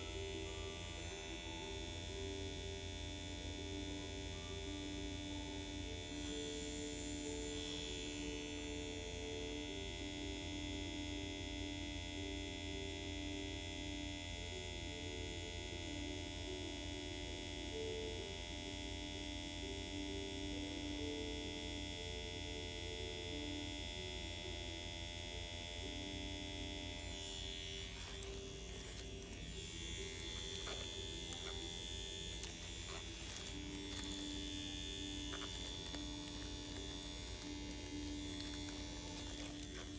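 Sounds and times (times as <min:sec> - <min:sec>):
soft background music: 0:00.0 - 0:39.9
steady electric hum: 0:00.0 - 0:39.9.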